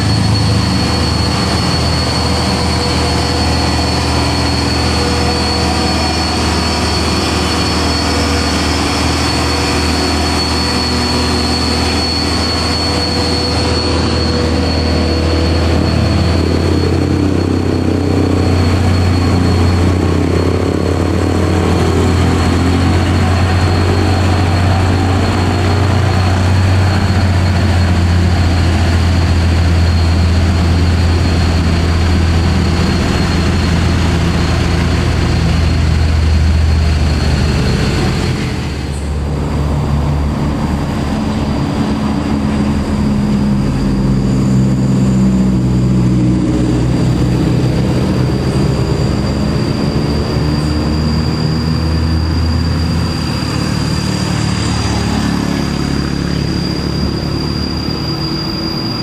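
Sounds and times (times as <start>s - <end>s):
diesel truck engines labouring: 0.0s - 59.0s
high-pitched whine: 0.0s - 59.0s.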